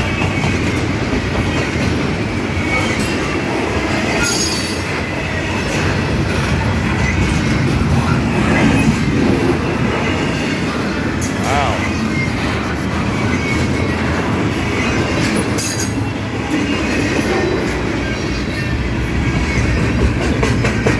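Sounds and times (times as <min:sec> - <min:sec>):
freight train rolling past: 0:00.0 - 0:20.9.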